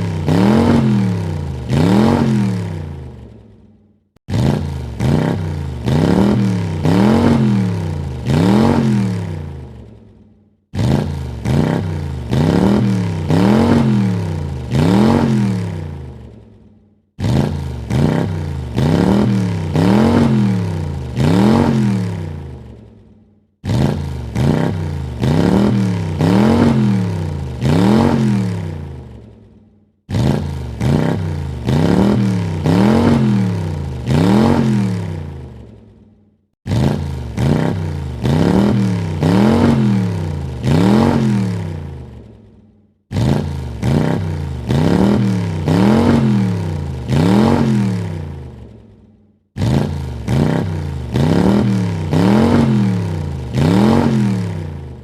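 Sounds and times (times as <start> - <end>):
car engine revving in blips: 0.0 - 3.3, 4.2 - 10.0, 10.7 - 16.4, 17.2 - 22.8, 23.6 - 29.2, 30.1 - 35.7, 36.6 - 42.2, 43.1 - 48.7, 49.6 - 55.0.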